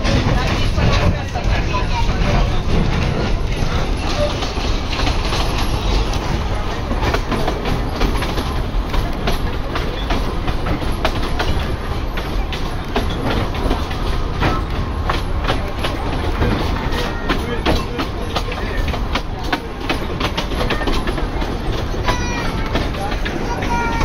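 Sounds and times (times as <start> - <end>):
train rumbling: 0.0 - 24.0
wheels clacking on rails: 0.0 - 24.0.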